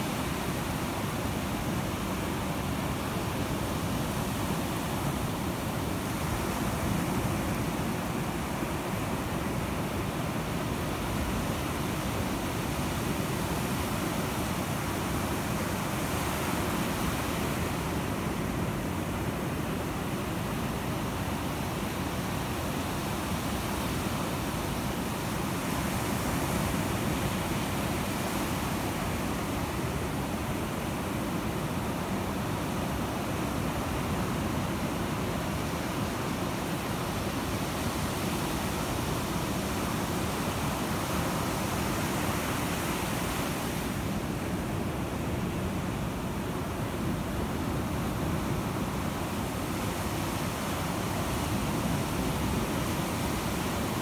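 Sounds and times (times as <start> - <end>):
waves breaking on beach: 0.0 - 54.0.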